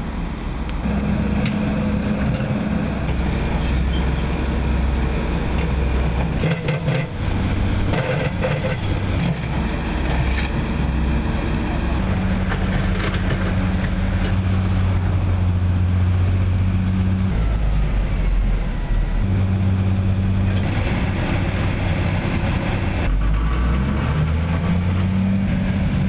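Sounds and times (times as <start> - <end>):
heavy machine diesel engines: 0.0 - 26.0
road-works noise: 0.0 - 26.0.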